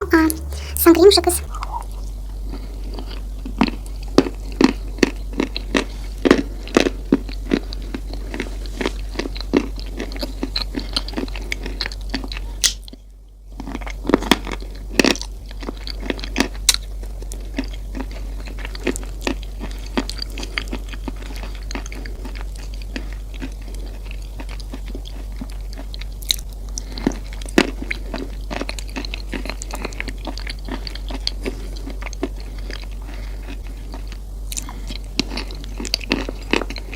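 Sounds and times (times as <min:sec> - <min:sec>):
chewing crunchy cereal: 0:00.1 - 0:36.9.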